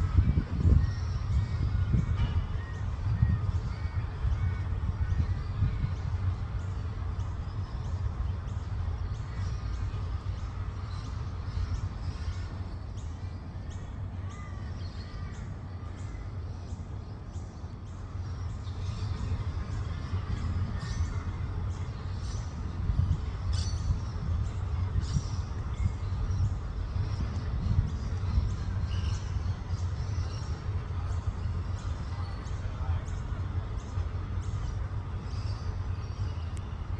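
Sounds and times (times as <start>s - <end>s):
steady low rumble: 0.0s - 36.9s.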